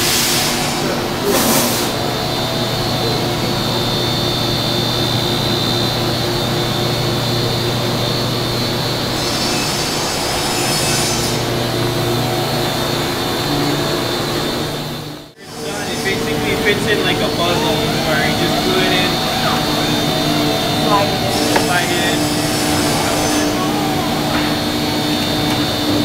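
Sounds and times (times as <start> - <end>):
cnc mill high whine: 0.0 - 26.0.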